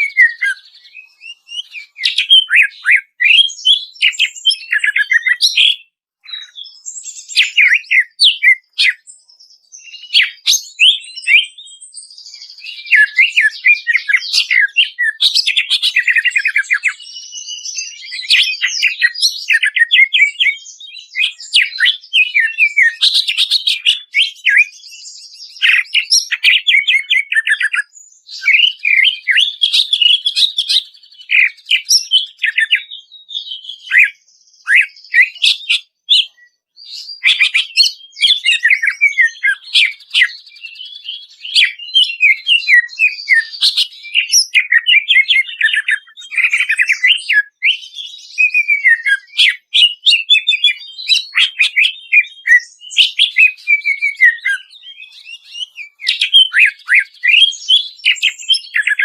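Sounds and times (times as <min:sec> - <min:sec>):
bird singing loudly: 0:00.0 - 0:59.0.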